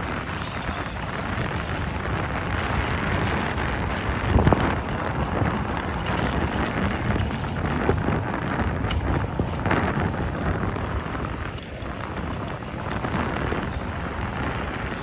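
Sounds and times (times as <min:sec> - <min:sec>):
road traffic: 0:00.0 - 0:15.0
wind buffeting microphone: 0:00.0 - 0:15.0.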